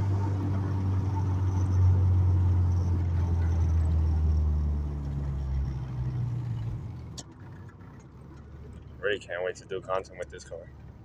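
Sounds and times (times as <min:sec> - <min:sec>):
car engine hum from inside cabin: 0:00.0 - 0:11.0.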